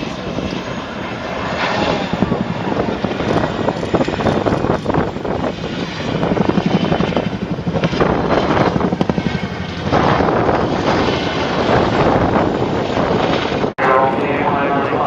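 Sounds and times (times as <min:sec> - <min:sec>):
helicopter rotor beat: 0:00.0 - 0:15.0
turbine noise: 0:00.0 - 0:15.0.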